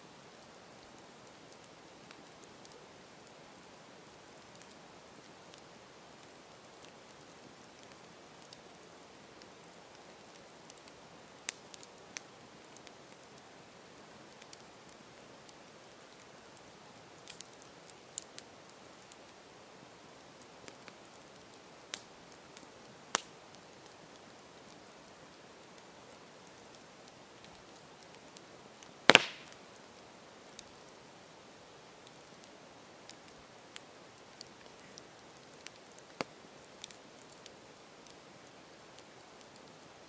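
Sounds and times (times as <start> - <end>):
campfire crackling and popping: 0.1 - 40.0.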